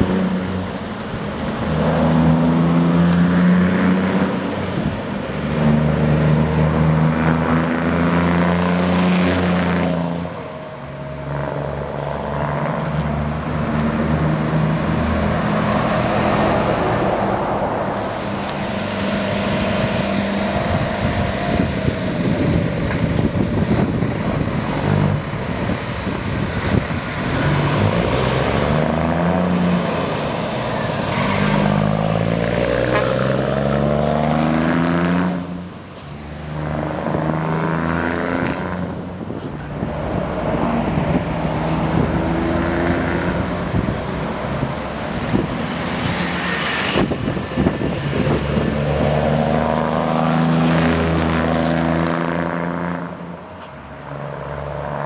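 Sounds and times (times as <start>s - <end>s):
trucks accelerating and driving past: 0.0s - 55.0s.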